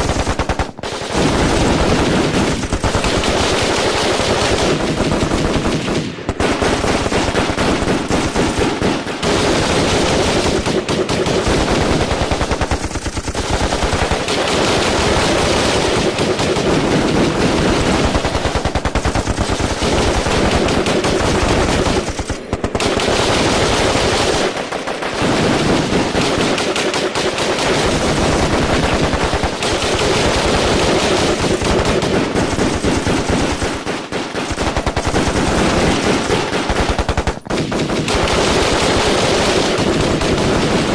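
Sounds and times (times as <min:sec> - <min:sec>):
automatic gunfire: 0:00.0 - 0:40.9.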